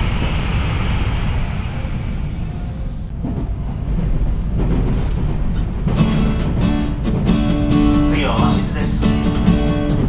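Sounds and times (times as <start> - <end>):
electric train rumbling on rails: 0.0 - 10.0.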